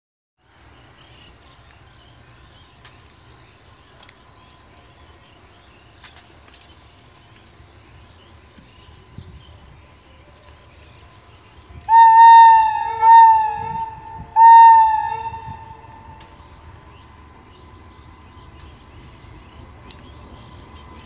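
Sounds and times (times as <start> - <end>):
low steady rumble: 0.5 - 21.0.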